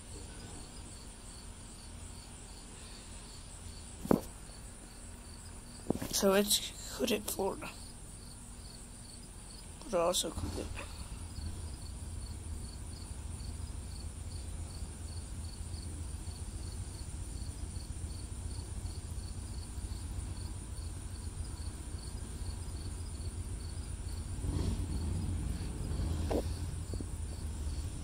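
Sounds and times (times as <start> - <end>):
cricket chirping: 0.0 - 6.0, 7.7 - 9.8, 11.0 - 28.0
low steady rumble: 0.0 - 28.0.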